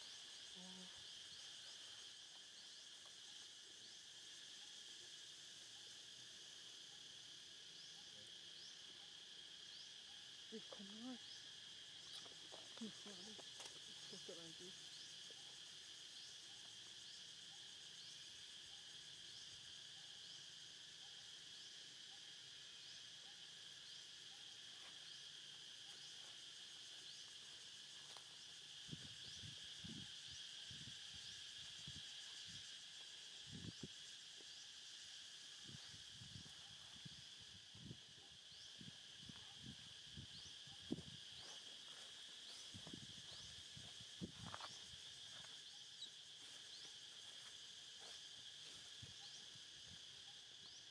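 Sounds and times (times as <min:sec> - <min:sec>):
insects chorus: 0:00.0 - 0:50.9.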